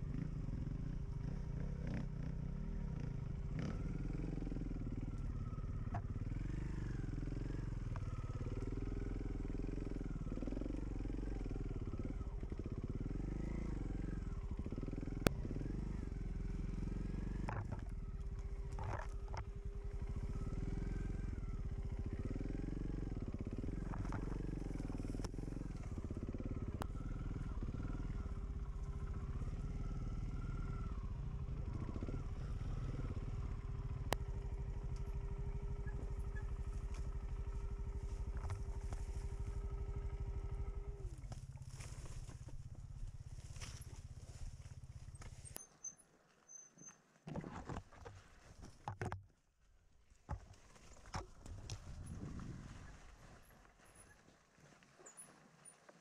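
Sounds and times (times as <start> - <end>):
motorcycle engine revving: 0.0 - 45.6, 50.3 - 54.2.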